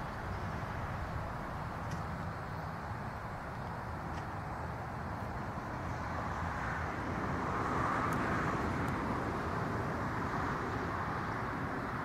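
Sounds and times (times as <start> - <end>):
outdoor background rush: 0.0 - 12.0.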